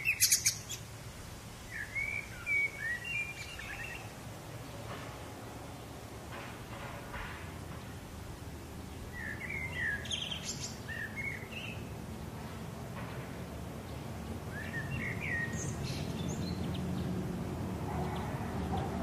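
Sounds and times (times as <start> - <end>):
birds chirping: 0.0 - 0.9, 1.6 - 6.2, 7.6 - 19.0.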